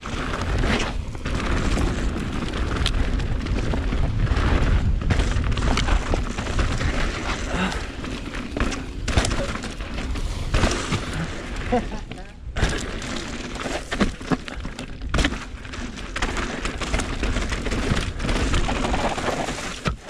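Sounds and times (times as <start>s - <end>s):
bike rattling over bumps: 0.0s - 20.0s
bike tyres on dirt: 0.0s - 20.0s.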